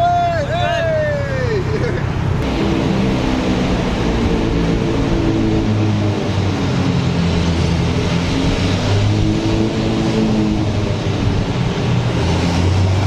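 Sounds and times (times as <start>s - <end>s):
rush of air and road noise: 0.0s - 13.0s
car engine at low revs: 1.7s - 13.0s.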